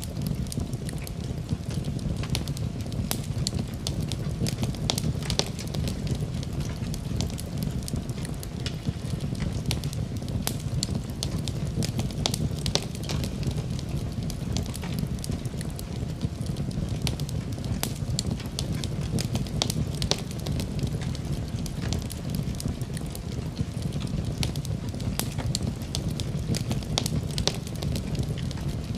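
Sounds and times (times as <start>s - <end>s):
fire crackling and popping: 0.0s - 28.9s
low rumble of flames: 0.0s - 28.9s.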